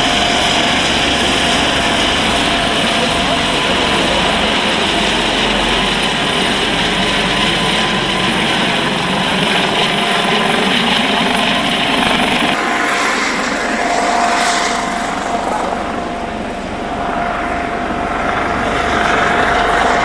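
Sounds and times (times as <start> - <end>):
helicopter rotors and engine: 0.0 - 20.0.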